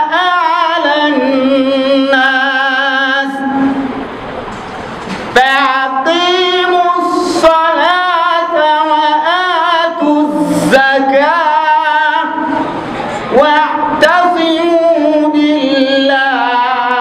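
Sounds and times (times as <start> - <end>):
man chanting into microphone: 0.0 - 3.9, 5.3 - 12.7, 13.3 - 17.0.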